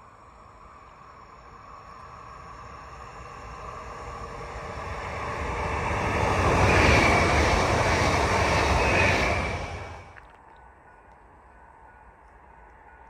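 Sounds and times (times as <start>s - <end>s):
train rumble and rail noise: 0.0s - 13.0s.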